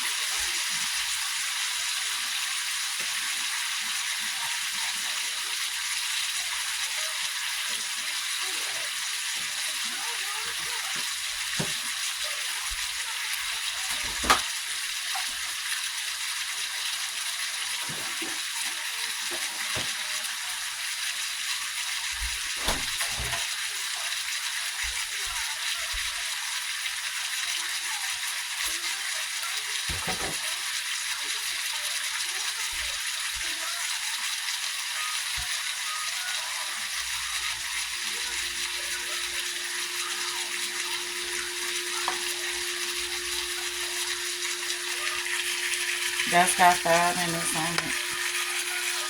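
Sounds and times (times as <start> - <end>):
steak sizzling: 0.0 - 49.0.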